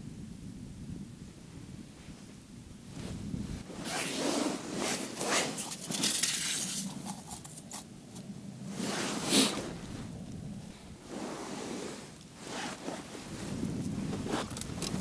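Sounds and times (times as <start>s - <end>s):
clothing rustling and handling noise: 2.0s - 15.0s.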